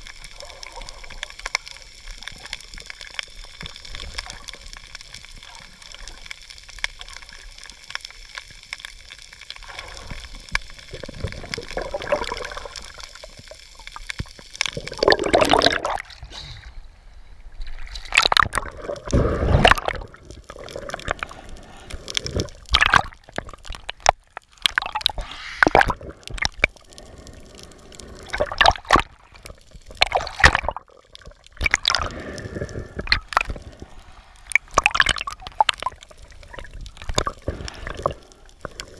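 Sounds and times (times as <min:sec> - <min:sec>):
underwater gurgling and sloshing: 0:00.0 - 0:38.9
water surges and swishes: 0:00.0 - 0:38.9.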